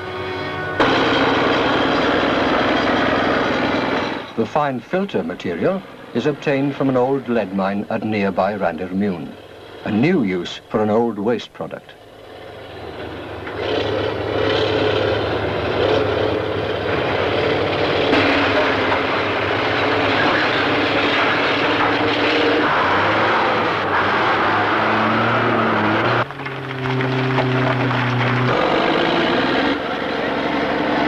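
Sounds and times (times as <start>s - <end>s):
engine steady note: 0.0s - 31.0s
heavy diesel machinery engine drone: 0.0s - 31.0s.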